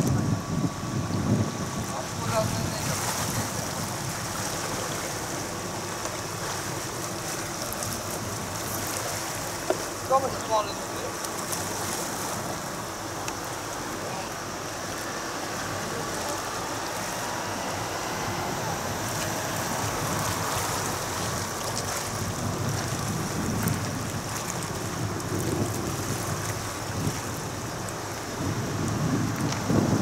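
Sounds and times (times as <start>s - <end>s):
wind gusts on microphone: 0.0s - 11.0s, 15.1s - 30.0s
wind and water noise: 0.0s - 30.0s.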